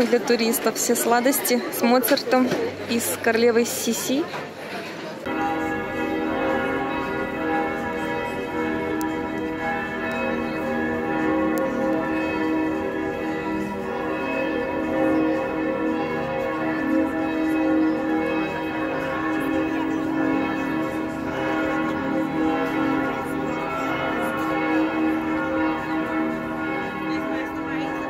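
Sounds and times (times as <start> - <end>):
bells pealing: 5.3 - 28.0.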